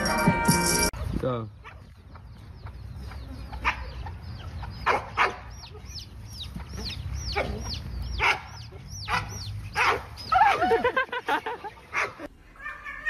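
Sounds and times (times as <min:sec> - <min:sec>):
birds chirping: 0:00.0 - 0:12.5
harsh bird calls: 0:01.0 - 0:12.9.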